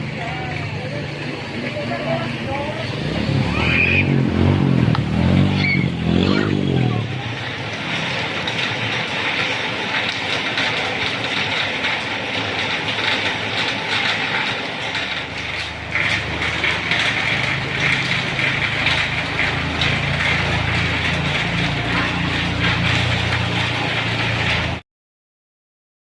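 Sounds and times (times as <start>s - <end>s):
heavy rain hissing on street: 0.0s - 24.8s
vehicle engine running: 0.0s - 24.8s.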